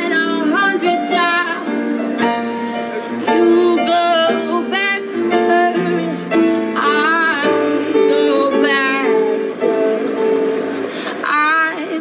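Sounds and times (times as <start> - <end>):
woman singing: 0.0 - 2.3, 3.2 - 12.0
piano accompaniment: 0.0 - 12.0.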